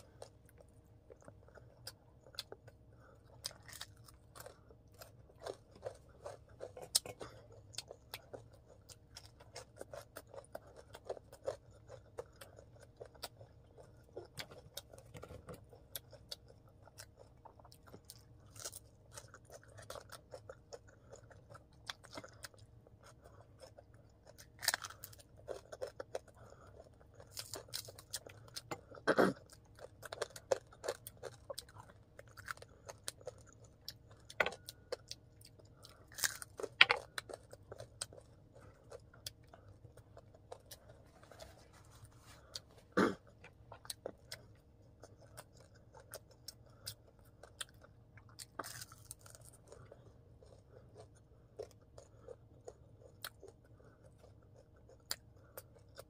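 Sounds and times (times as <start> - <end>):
chewing crunchy fried food: 0.0 - 56.0.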